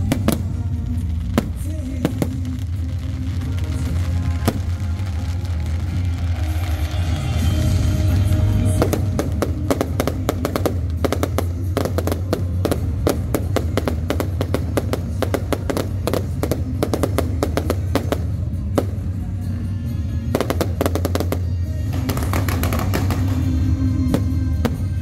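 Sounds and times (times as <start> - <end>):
fireworks crackling and popping: 0.0 - 25.0
music with heavy bass: 0.0 - 25.0.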